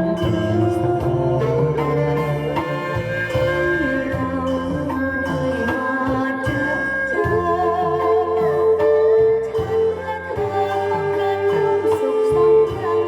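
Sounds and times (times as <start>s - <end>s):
backing track bass line: 0.0s - 13.0s
bowed fiddle melody with vibrato: 0.0s - 13.0s.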